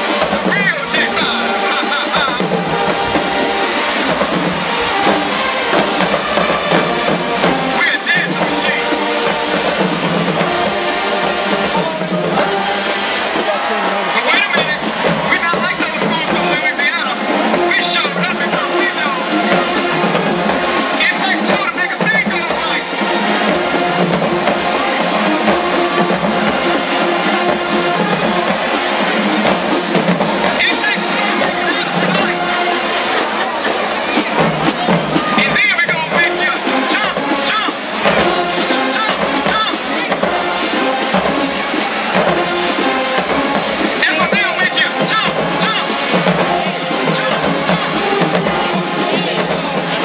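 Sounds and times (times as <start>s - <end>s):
brass melody: 0.0s - 50.0s
marching drumline: 0.0s - 50.0s.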